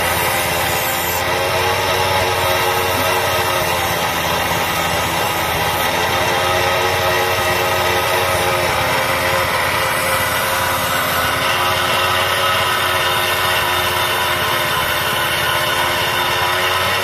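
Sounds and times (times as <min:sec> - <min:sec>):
grinding wheel: 0:00.0 - 0:17.0
motorcycle engine running: 0:00.0 - 0:17.0.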